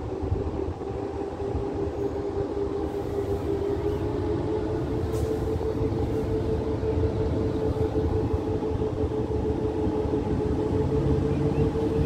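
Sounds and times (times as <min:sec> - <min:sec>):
electric locomotive rumbling: 0:00.0 - 0:12.0.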